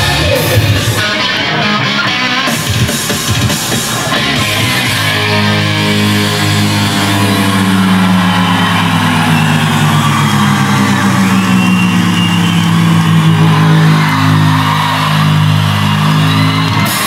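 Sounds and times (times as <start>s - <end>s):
loud rock music with guitar: 0.0s - 17.0s.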